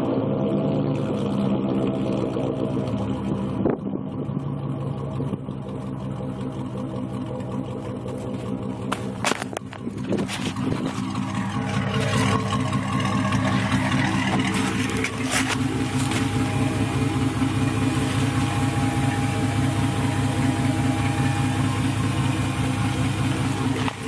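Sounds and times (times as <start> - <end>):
truck engine idling: 1.0 - 24.0.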